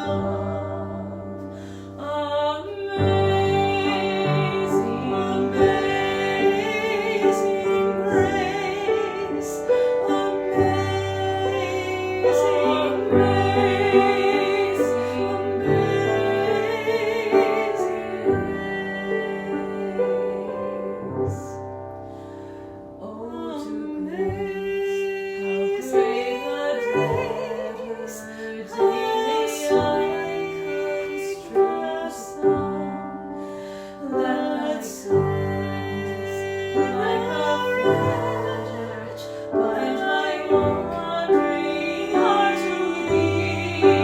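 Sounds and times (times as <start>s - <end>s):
piano accompaniment: 0.0s - 44.0s
women singing with vibrato: 0.0s - 44.0s.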